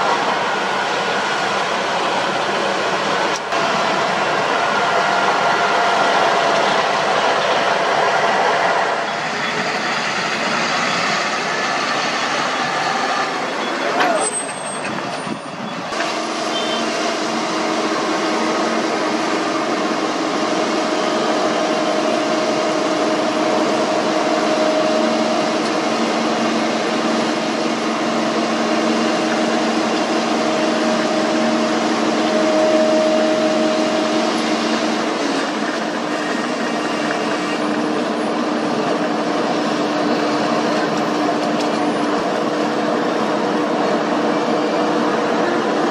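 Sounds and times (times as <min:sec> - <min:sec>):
heavy diesel engines running: 0:00.0 - 0:45.9.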